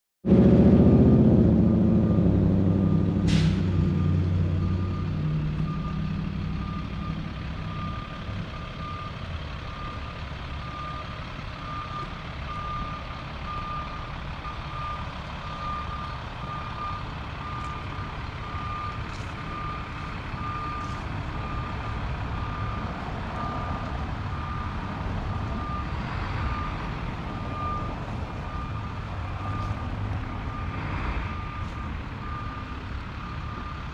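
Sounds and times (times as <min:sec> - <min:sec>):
vehicle engine running: 0:00.2 - 0:33.9
truck reversing alarm beeping: 0:01.4 - 0:33.9.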